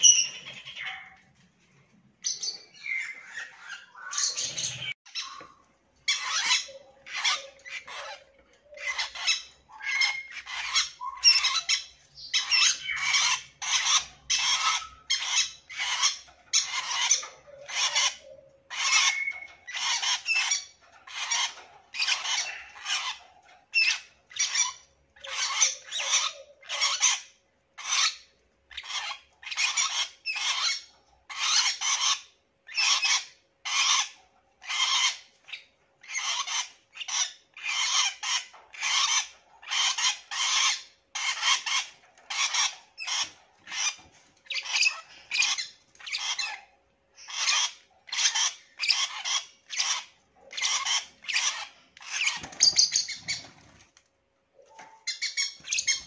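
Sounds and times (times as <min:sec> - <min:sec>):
lovebirds chirping: 0:00.0 - 0:53.8, 0:54.5 - 0:56.0.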